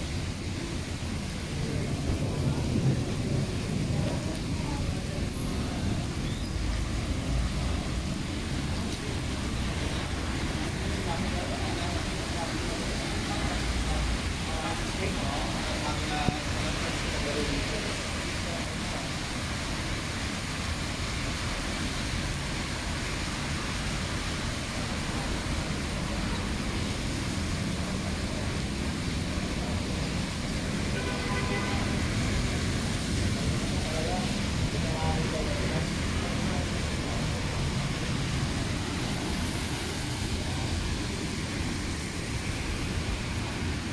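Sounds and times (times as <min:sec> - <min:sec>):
car traffic on wet road: 0:00.0 - 0:43.9
heavy rain on wet street: 0:00.0 - 0:43.9.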